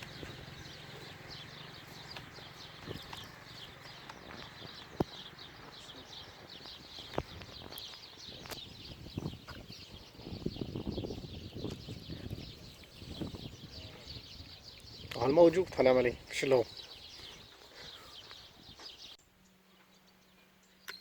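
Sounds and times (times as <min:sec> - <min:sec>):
small birds twittering: 0:00.0 - 0:21.0.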